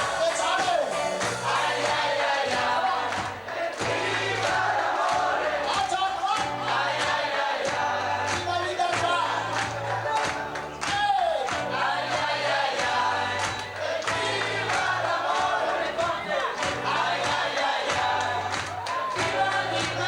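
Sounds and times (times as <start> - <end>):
voices singing together: 0.0 - 20.0.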